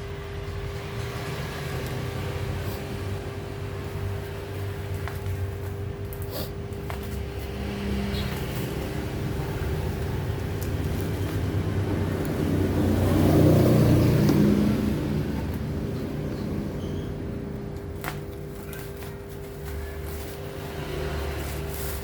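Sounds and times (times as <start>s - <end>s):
vehicle passing by: 0.0s - 5.4s, 6.9s - 17.9s, 19.1s - 22.0s.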